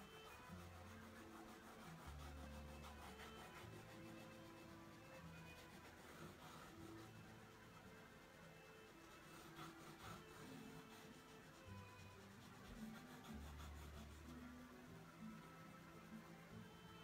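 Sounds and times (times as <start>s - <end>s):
stick scratching paper: 0.0s - 14.6s.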